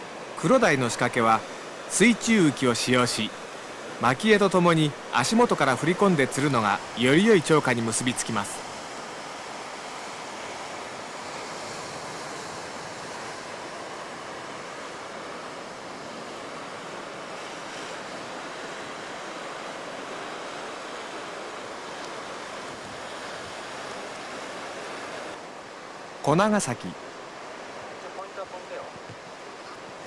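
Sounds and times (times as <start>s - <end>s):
waves breaking on rocky shore: 0.0s - 30.0s.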